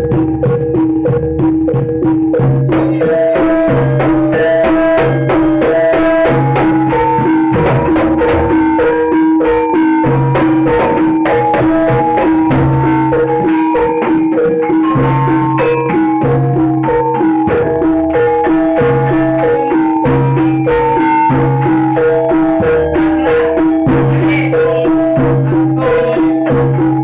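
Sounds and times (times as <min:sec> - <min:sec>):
drums: 0:00.0 - 0:27.0
gamelan music: 0:00.0 - 0:27.0
struck metal instruments: 0:00.0 - 0:27.0.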